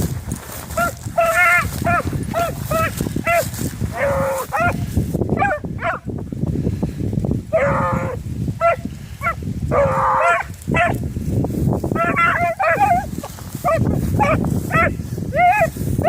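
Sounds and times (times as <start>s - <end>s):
wind rumbling on microphone: 0.0s - 16.0s
hounds baying: 0.6s - 6.1s, 7.5s - 11.0s, 11.9s - 15.8s.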